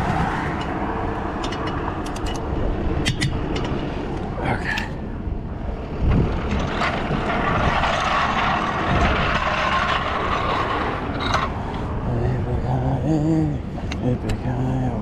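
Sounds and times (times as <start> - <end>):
highway traffic passing: 0.0 - 15.0.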